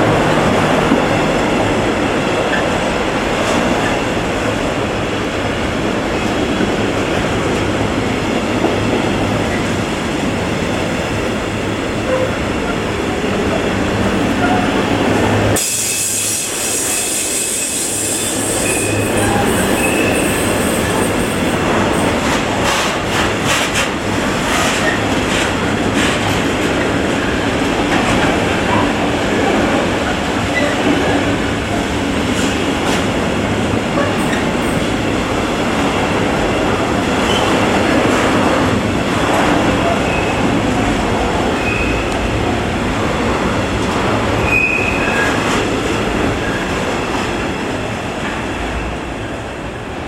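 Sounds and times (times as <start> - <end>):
steel wheels rumbling on rail: 0.0 - 50.0.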